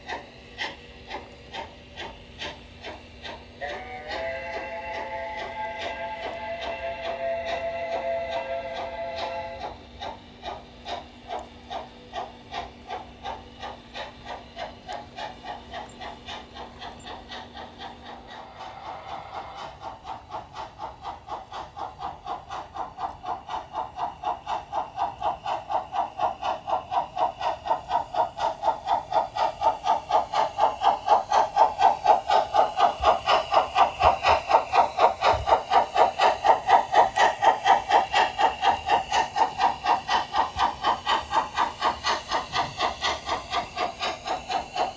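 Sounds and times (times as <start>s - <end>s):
model train steam chuffs: 0.0s - 44.9s.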